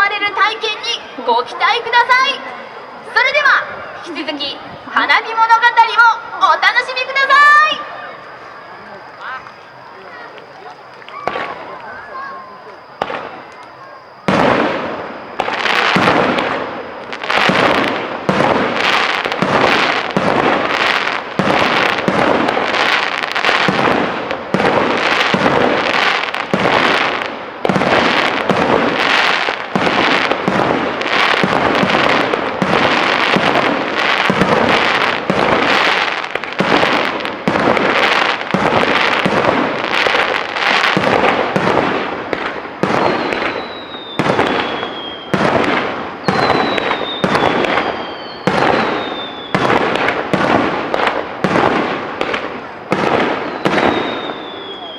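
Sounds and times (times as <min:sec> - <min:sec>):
falling firework whistle: 0:00.0 - 0:54.9
firework crackling: 0:00.0 - 0:54.9
firework shells bursting: 0:09.1 - 0:54.9.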